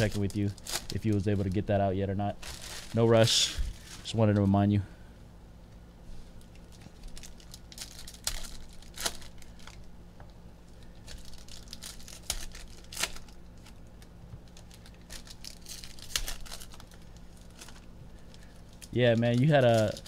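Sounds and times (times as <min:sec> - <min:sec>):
foil wrappers crinkling: 0:00.0 - 0:04.6, 0:06.3 - 0:09.9, 0:10.7 - 0:20.0.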